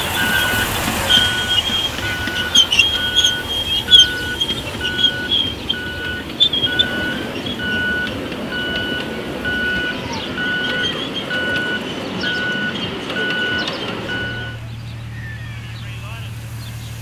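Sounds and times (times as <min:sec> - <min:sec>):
electronic warning beeper: 0:00.0 - 0:14.6
miniature train cars rolling: 0:00.0 - 0:17.0.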